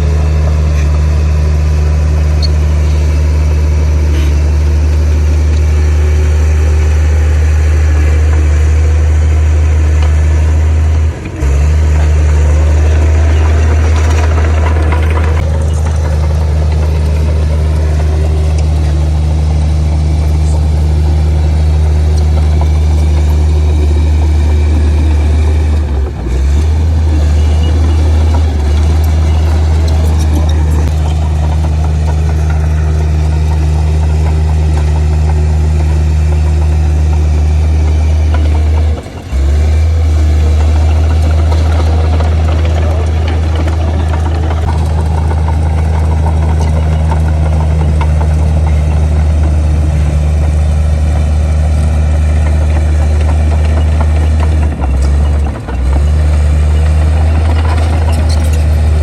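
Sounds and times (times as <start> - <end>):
bulldozer diesel engine running: 0.0 - 59.0
engine whine: 0.0 - 59.0.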